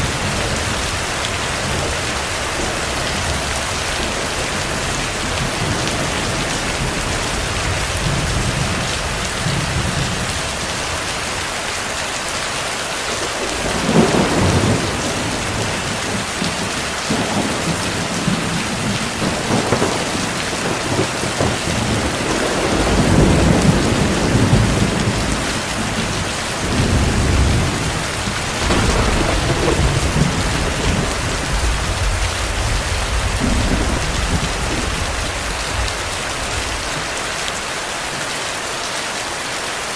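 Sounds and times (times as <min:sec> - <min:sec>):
thunder rumbling: 0:00.0 - 0:37.3
heavy rain: 0:00.0 - 0:39.9.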